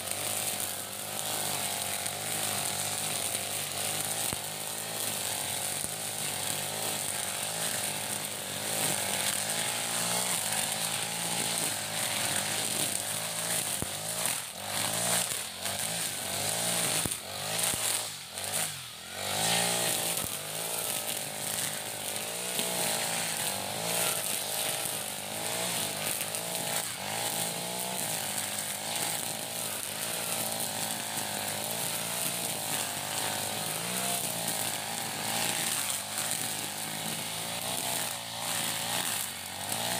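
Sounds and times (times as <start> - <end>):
brush cutter engine at high revs: 0.0 - 39.9
trimmer line cutting grass: 0.0 - 39.9.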